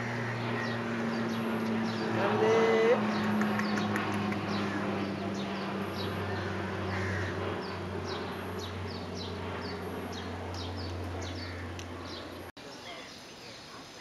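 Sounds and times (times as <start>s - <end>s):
steady low hum: 0.0s - 12.8s
small birds chirping: 0.0s - 14.0s.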